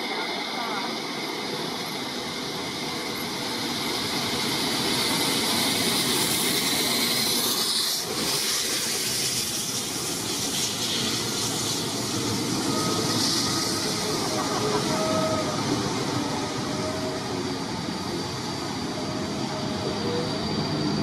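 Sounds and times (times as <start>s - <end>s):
steam locomotive passing: 0.0s - 21.0s.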